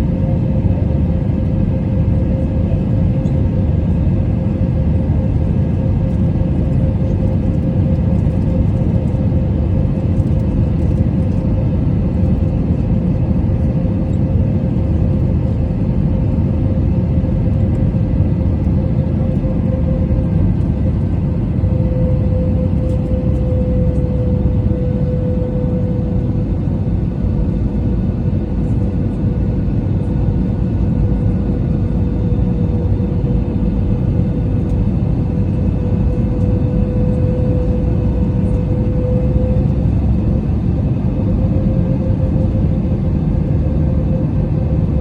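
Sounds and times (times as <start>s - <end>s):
engine and airflow rumble: 0.0s - 45.0s
engine hum: 0.2s - 45.0s.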